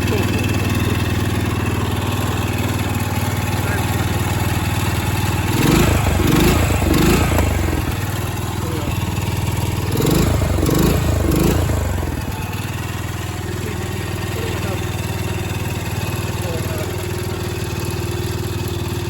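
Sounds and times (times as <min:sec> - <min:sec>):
small engine running and revving: 0:00.0 - 0:19.0.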